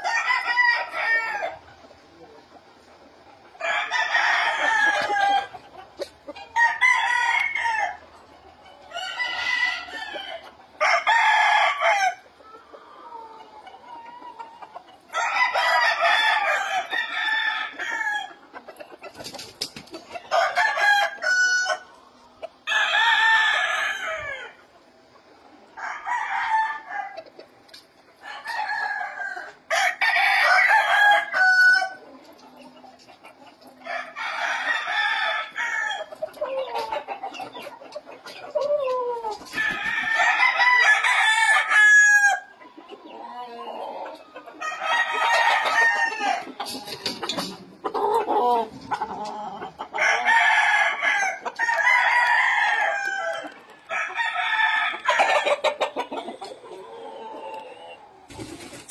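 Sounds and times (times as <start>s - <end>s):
roosters crowing: 0.0s - 1.8s, 3.4s - 18.8s, 19.4s - 24.7s, 25.7s - 27.4s, 28.2s - 32.0s, 33.7s - 58.9s.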